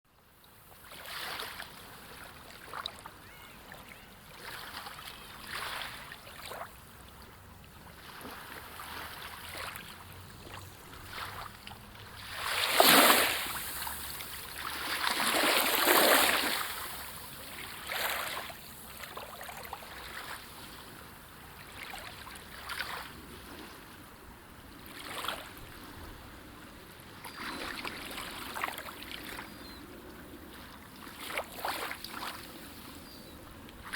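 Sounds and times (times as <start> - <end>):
waves breaking on beach: 0.7 - 7.2, 7.8 - 33.9.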